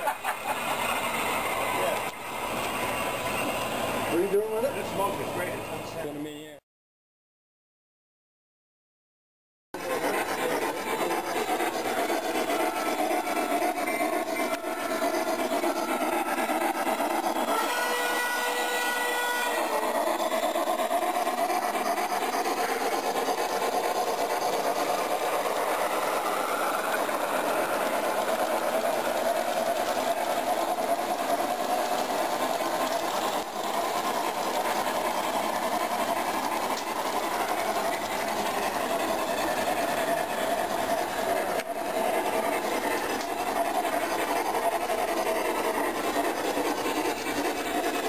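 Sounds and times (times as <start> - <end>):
model train wheels rattling on rails: 0.0 - 5.6, 9.8 - 48.0.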